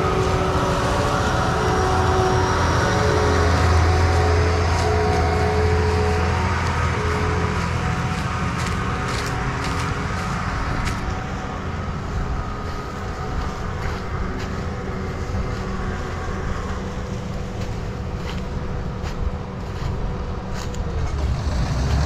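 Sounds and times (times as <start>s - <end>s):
combine engine drone: 0.0s - 22.0s.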